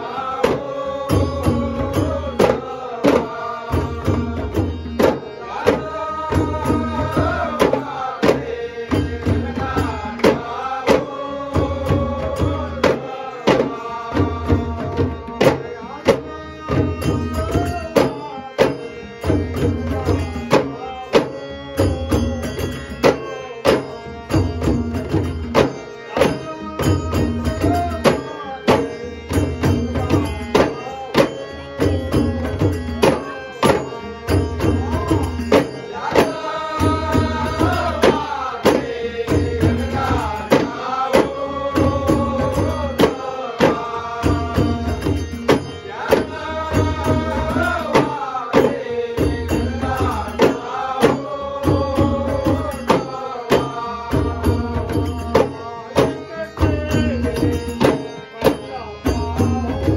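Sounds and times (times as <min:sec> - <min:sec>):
clay-pot drums beaten: 0:00.0 - 0:59.9
man singing: 0:00.0 - 0:59.9.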